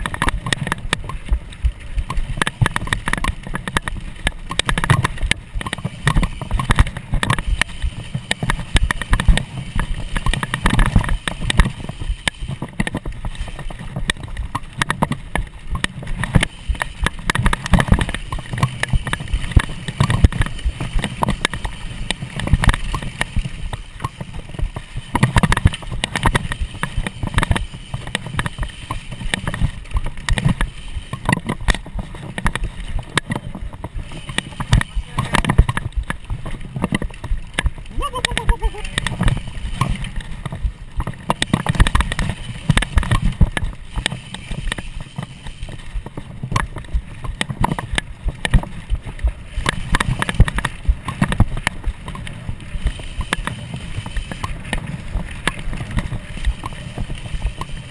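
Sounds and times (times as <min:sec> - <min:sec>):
bike rattling over rough trail: 0:00.0 - 0:57.9
wind rumbling on microphone: 0:00.0 - 0:57.9.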